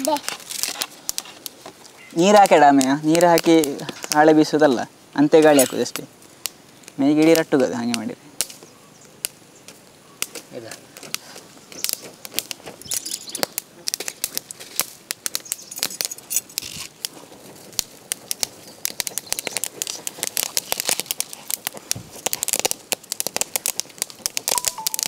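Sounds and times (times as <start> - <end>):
corn roasting on charcoal popping: 0.0 - 25.0.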